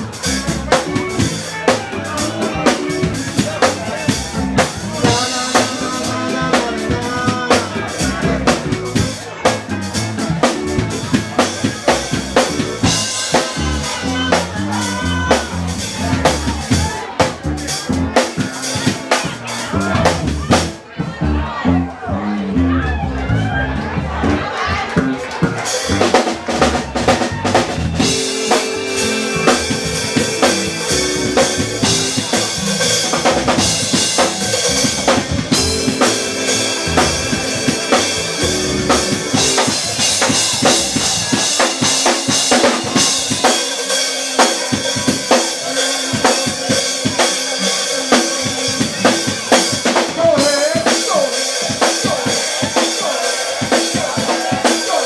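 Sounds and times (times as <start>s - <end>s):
drum kit beat: 0.0s - 21.4s, 23.8s - 55.0s
live soul band playing: 0.0s - 55.0s.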